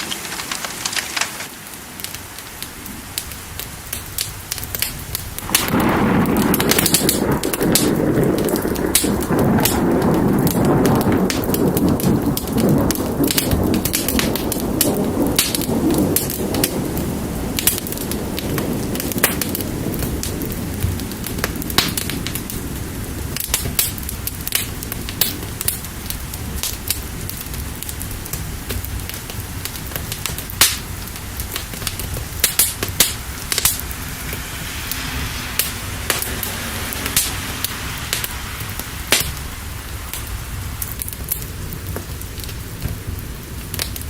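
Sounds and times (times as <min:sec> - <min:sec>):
fire crackling and popping: 0:00.0 - 0:44.0
rain hissing: 0:00.0 - 0:44.0
low rumble of thunder: 0:02.7 - 0:44.0.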